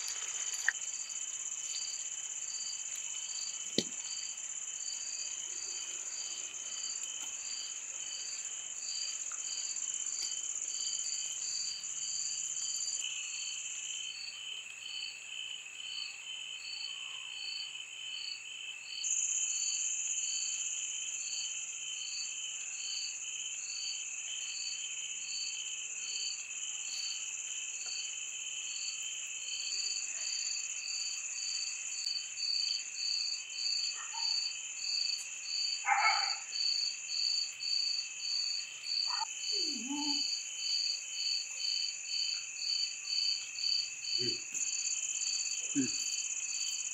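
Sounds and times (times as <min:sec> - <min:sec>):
insects buzzing: 0:00.0 - 0:15.5, 0:22.9 - 0:46.9
crickets chirping: 0:00.0 - 0:46.9.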